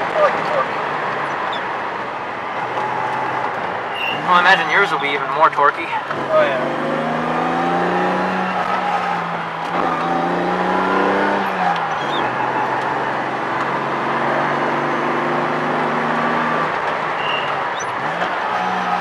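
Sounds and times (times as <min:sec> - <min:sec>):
car engine pulling uphill: 0:00.0 - 0:19.0.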